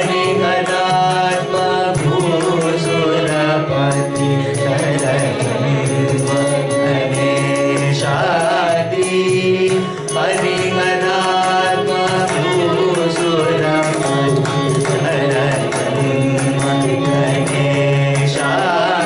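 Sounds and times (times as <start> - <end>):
voices singing with ornamented glides: 0.0 - 19.0.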